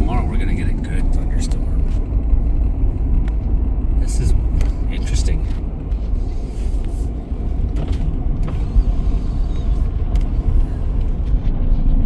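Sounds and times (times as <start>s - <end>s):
vehicle rumble from inside cab: 0.0s - 12.0s.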